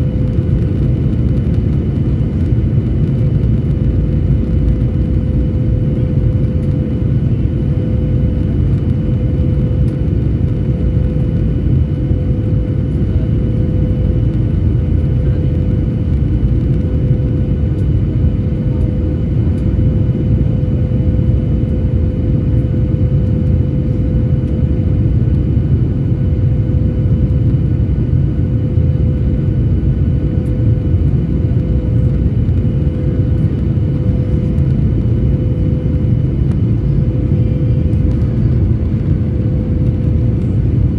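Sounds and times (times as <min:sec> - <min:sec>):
jet engines and airflow rumble: 0:00.0 - 0:40.9
mid-pitched hum: 0:00.0 - 0:40.9.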